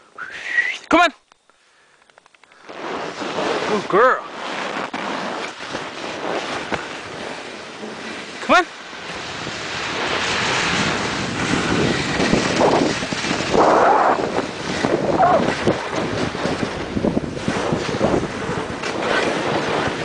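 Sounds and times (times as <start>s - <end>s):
skis scraping on snow: 2.5s - 20.0s
wind rushing over microphone: 2.7s - 20.0s.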